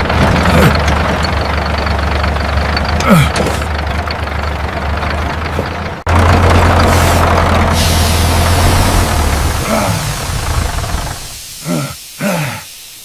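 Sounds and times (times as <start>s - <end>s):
tractor engine droning: 0.0s - 11.8s.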